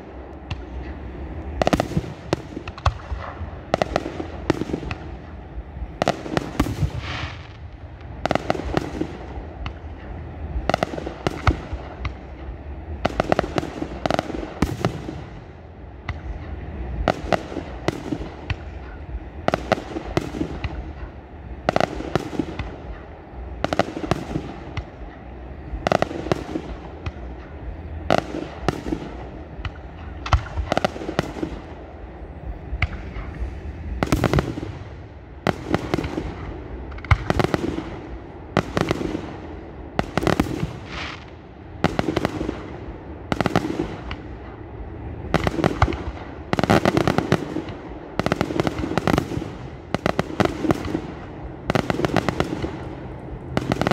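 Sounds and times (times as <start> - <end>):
fireworks bangs and crackles: 0.0 - 53.9
low rumble: 0.0 - 53.9.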